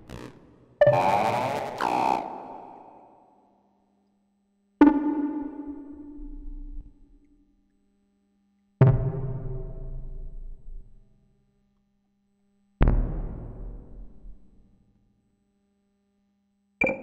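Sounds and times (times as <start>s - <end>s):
faint steady hum: 0.0s - 8.8s, 10.1s - 12.8s, 13.9s - 17.0s.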